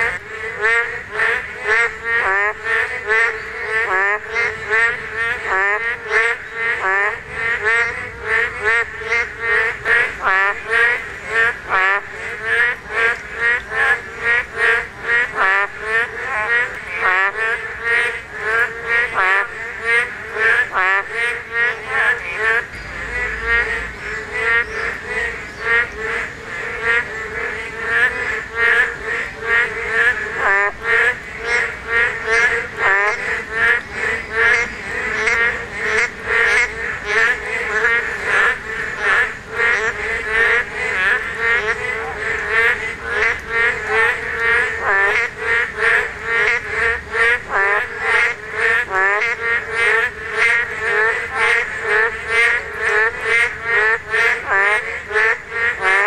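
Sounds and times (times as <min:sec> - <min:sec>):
chorus of frogs calling: 0:00.0 - 0:56.0.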